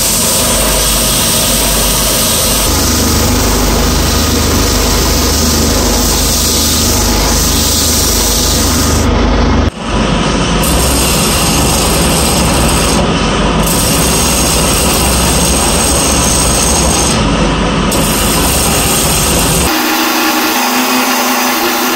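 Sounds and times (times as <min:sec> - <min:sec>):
sandpaper on spinning wood: 0:00.0 - 0:09.1, 0:10.6 - 0:13.0, 0:13.6 - 0:17.2, 0:17.9 - 0:21.9
wood lathe motor running: 0:00.0 - 0:09.7, 0:10.6 - 0:21.9.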